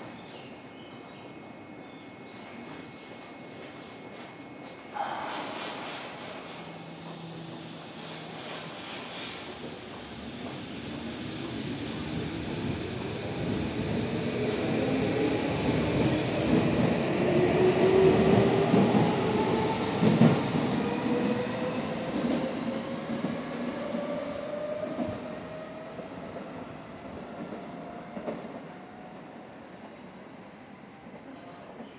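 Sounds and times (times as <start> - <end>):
rumble of train wheels: 0.0 - 31.9.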